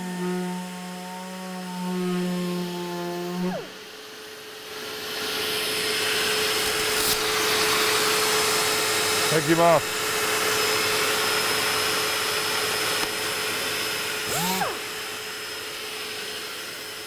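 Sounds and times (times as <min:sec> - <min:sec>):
orbital sander humming: 0:00.0 - 0:03.8, 0:06.5 - 0:17.0.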